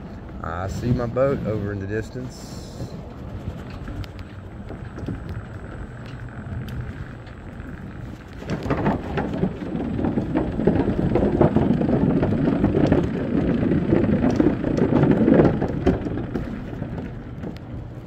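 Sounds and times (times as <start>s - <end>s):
rumbling crackling microphone buffeting: 0.0s - 18.0s.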